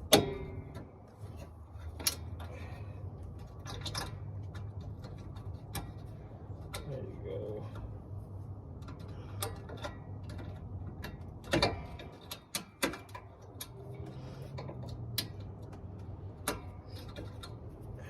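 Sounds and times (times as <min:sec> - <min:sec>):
tools clicking and knocking: 0:00.0 - 0:07.0, 0:08.8 - 0:18.0
steady low hum: 0:00.0 - 0:18.0.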